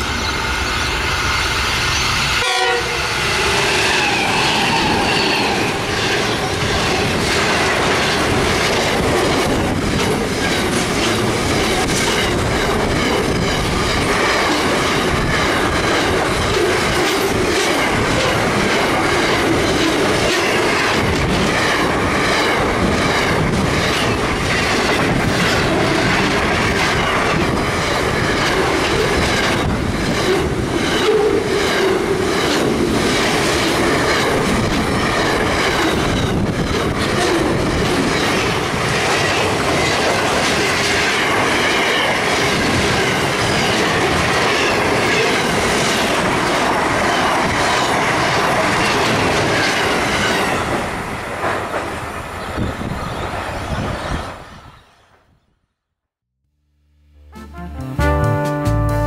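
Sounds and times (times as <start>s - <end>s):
train wheels rushing on rail: 0.0s - 54.9s.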